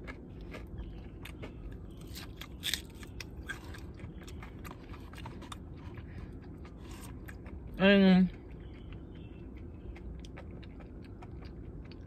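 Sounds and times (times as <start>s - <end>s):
chewing crispy fried food: 0.0s - 12.0s.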